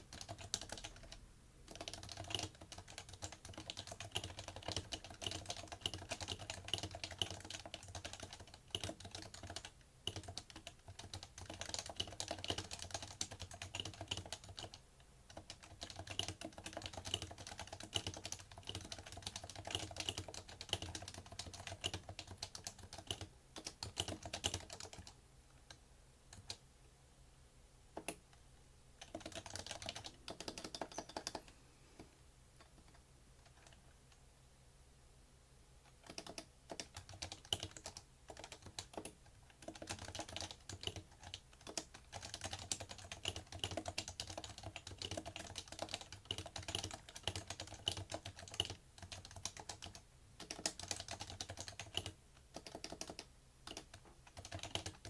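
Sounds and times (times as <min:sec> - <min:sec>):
keyboard typing: 0:00.0 - 0:26.6, 0:27.9 - 0:28.4, 0:29.0 - 0:33.9, 0:35.8 - 0:55.0.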